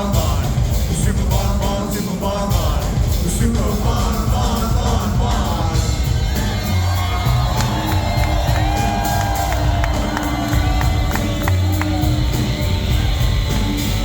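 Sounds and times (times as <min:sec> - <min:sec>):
crowd shouting and cheering: 0:00.0 - 0:14.0
rock band playing live: 0:00.0 - 0:14.0.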